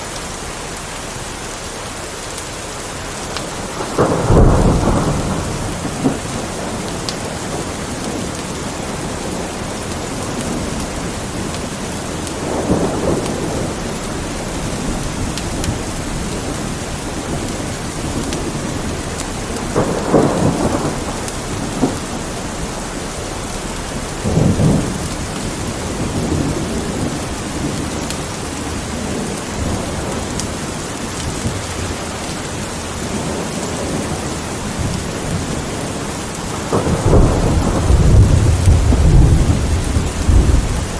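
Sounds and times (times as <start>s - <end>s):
steady rain: 0.0s - 40.9s
thunder rolling: 3.4s - 40.9s.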